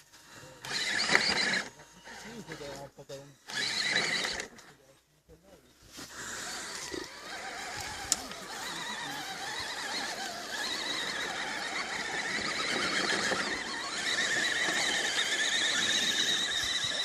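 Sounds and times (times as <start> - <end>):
electric motor and gearbox whining: 0.0 - 4.8, 6.0 - 17.0.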